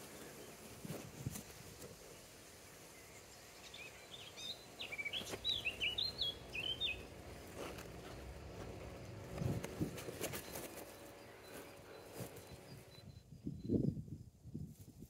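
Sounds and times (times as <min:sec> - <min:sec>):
songbird chirping: 0:00.0 - 0:14.4
faint outdoor hiss: 0:00.0 - 0:15.0.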